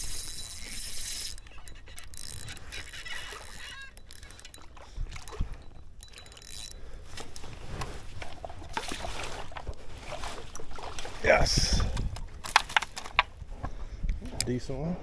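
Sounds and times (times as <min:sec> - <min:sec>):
fishing reel and handling noises: 0:00.0 - 0:13.4
water sloshing: 0:00.0 - 0:13.4.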